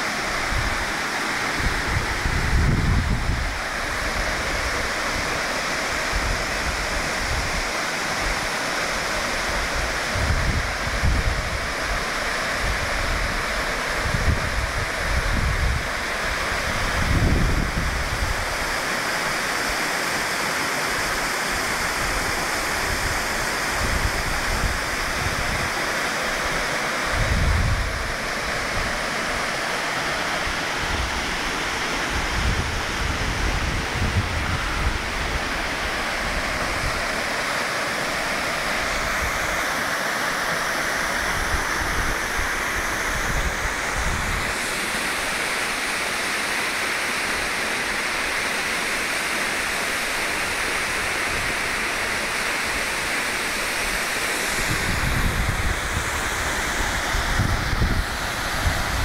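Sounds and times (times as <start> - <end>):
waterfall rushing into pool: 0.0 - 59.0.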